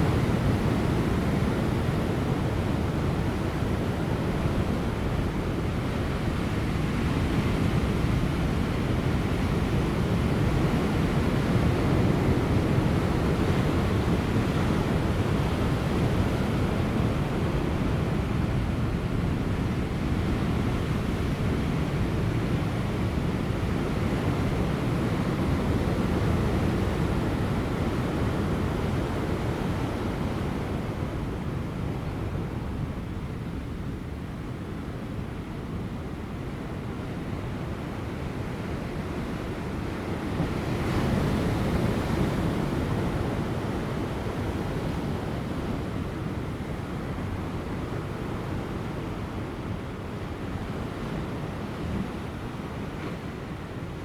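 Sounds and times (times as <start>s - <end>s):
light wind: 0.0s - 54.0s.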